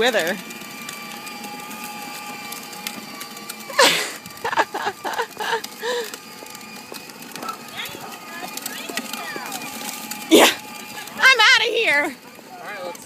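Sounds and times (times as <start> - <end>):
electric toy motor whine: 0.0 - 13.0.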